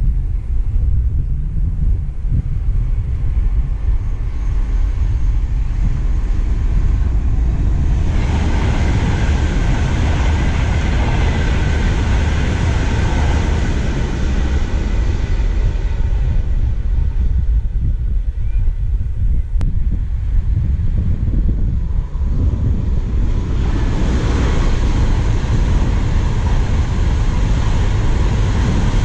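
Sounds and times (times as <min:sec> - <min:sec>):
wind buffeting microphone: 0:00.0 - 0:29.0
train wheels rushing on rail: 0:02.4 - 0:18.5, 0:20.0 - 0:29.0.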